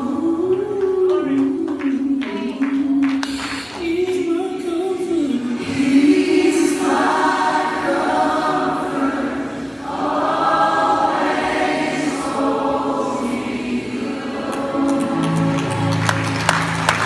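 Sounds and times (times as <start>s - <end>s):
choir singing: 0.0s - 3.6s, 5.4s - 17.0s.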